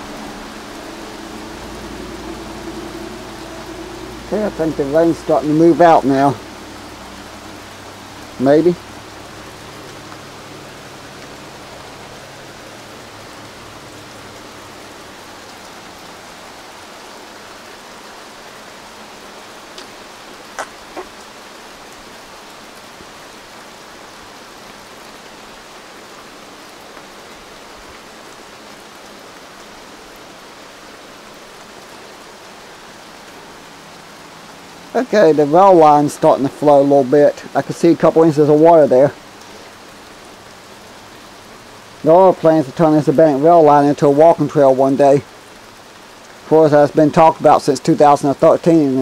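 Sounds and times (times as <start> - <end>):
rain falling on forest: 0.0 - 49.0.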